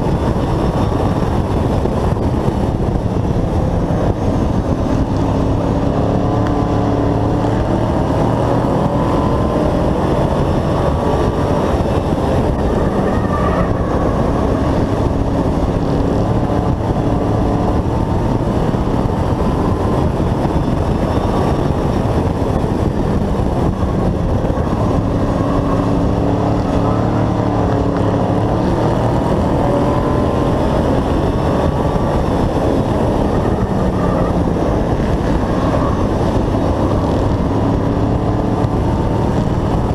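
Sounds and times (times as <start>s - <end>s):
constant rush of noise: 0.0s - 39.9s
race truck engine at speed: 0.0s - 39.9s.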